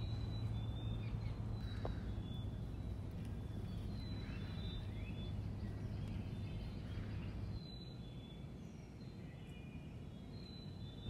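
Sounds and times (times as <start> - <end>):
low outdoor rumble: 0.0 - 11.0
songbirds chirping: 0.0 - 11.0.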